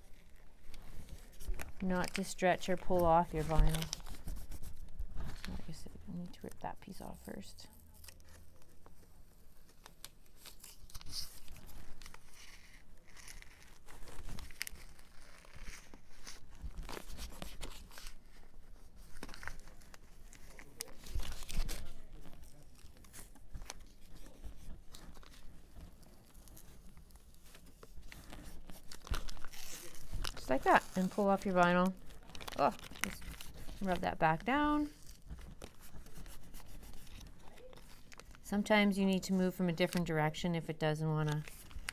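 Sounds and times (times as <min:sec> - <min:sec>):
tape peeling and tearing: 0:00.1 - 0:05.6, 0:07.7 - 0:34.0, 0:34.9 - 0:38.4.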